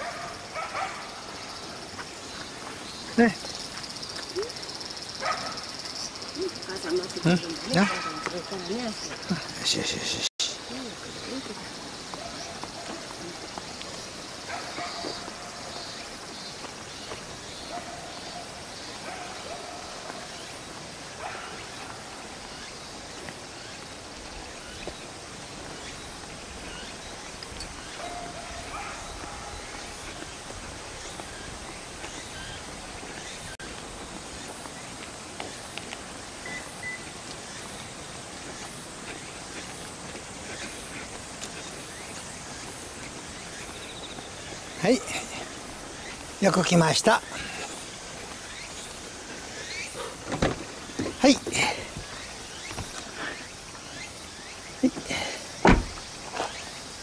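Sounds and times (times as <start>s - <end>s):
insect chorus trilling: 0.0s - 57.0s
outdoor background hiss: 0.0s - 57.0s.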